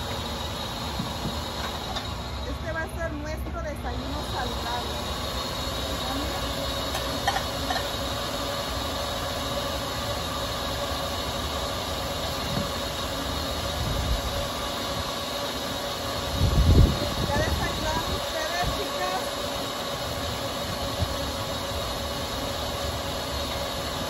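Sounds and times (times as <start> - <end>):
blender motor running: 0.0 - 3.1, 3.8 - 24.0.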